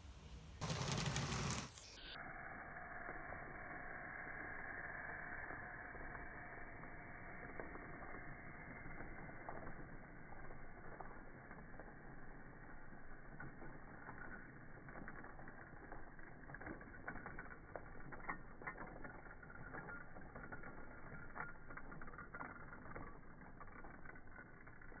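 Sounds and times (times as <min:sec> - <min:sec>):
faint mechanical noise: 0:00.0 - 0:25.0
model train wheels clicking: 0:00.6 - 0:02.1, 0:03.0 - 0:25.0.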